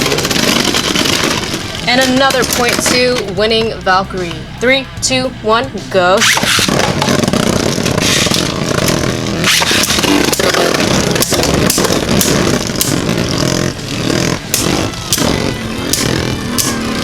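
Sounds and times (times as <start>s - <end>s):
spinning tops whirring and scraping: 0.0s - 17.0s.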